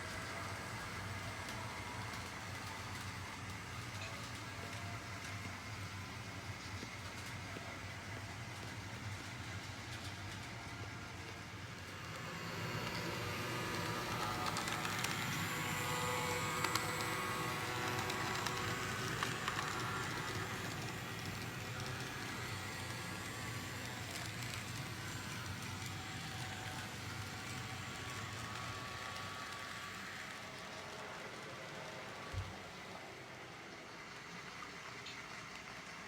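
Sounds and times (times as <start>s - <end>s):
model train running on track: 0.0s - 36.0s.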